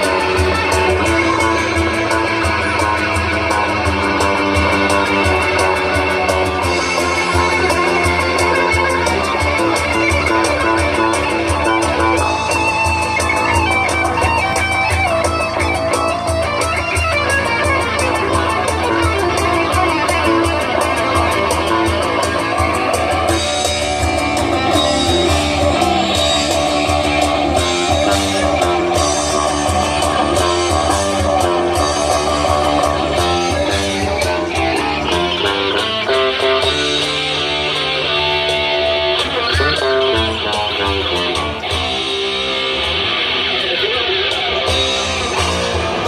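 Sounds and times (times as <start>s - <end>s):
country-rock band playing live: 0.0s - 46.0s
drum beat: 0.0s - 46.0s
electric guitars: 0.0s - 46.0s.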